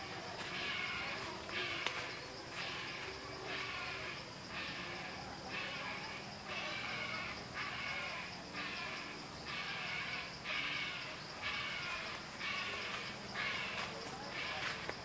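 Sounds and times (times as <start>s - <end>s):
harsh animal calls: 0.5s - 1.8s, 2.5s - 14.8s.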